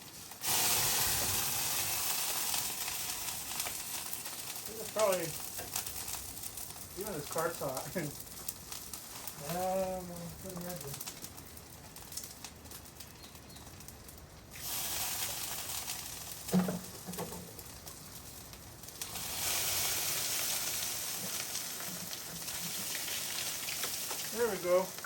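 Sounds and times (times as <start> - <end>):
hissing sizzling flame: 0.0 - 25.0.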